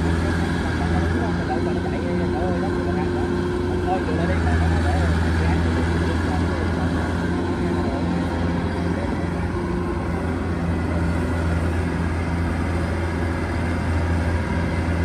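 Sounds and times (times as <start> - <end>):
harvester diesel engine droning: 0.0 - 15.0.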